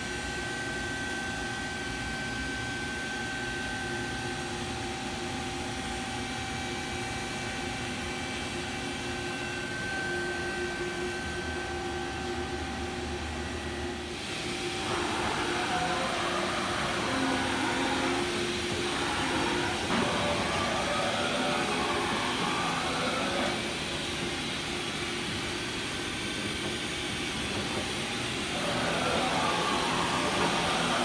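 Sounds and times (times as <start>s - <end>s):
machine humming with held tones: 0.0s - 31.0s.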